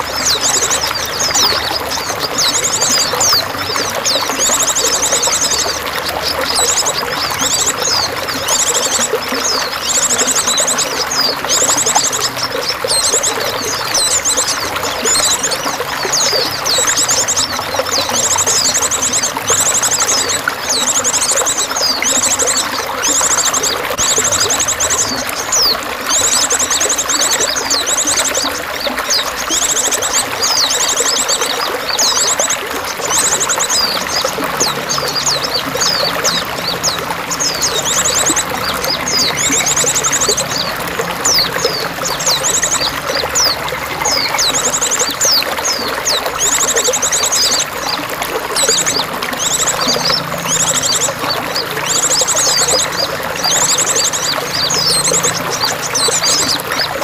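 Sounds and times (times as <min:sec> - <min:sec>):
running trickling water: 0:00.0 - 0:57.0
songbirds trilling and chirping: 0:00.0 - 0:57.0.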